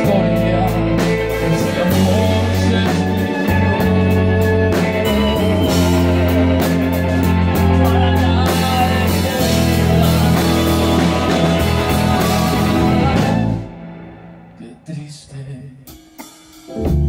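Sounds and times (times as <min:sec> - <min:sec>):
electric guitar: 0:00.0 - 0:14.8
electric bass: 0:00.0 - 0:14.9, 0:16.7 - 0:17.0
keyboard: 0:00.0 - 0:15.9, 0:16.6 - 0:17.0
drum kit: 0:00.0 - 0:17.0.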